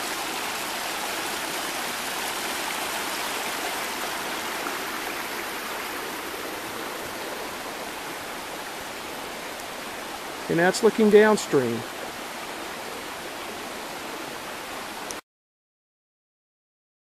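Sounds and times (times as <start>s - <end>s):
mountain creek flowing: 0.0s - 15.2s.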